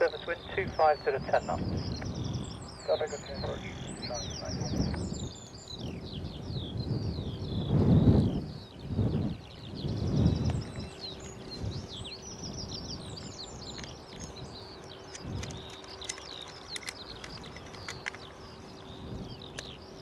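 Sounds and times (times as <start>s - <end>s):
small birds chirping and trilling: 0.0s - 20.0s
wind rumble on microphone: 0.0s - 20.0s.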